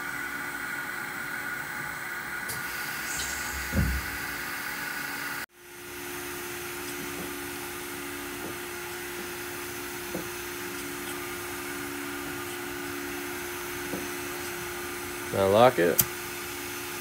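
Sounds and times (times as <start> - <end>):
grinder machine humming: 0.0 - 17.0.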